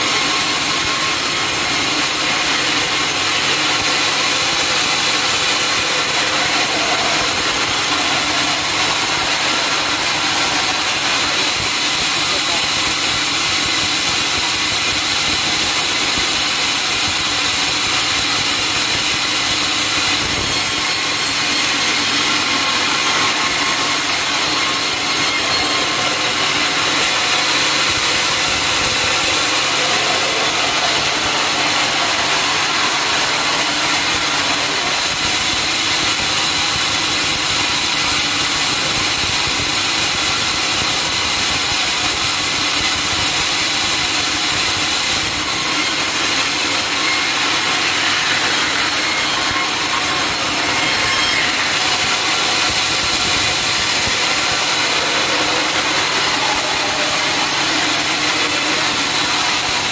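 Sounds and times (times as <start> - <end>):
machine engine running: 0.0 - 59.9
sawmill saw cutting log: 0.0 - 59.9.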